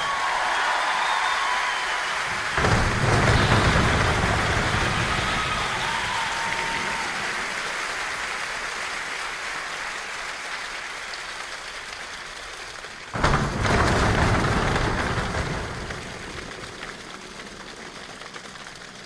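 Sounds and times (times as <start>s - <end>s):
rain-like patter by hand: 0.2s - 19.0s.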